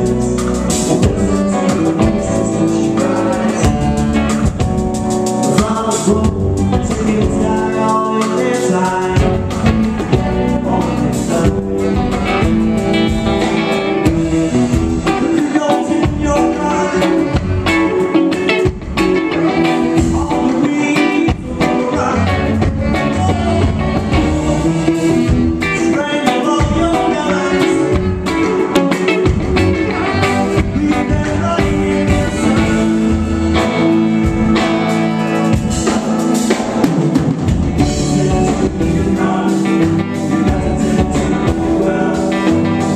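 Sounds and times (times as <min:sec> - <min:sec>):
live band music: 0:00.0 - 0:42.9.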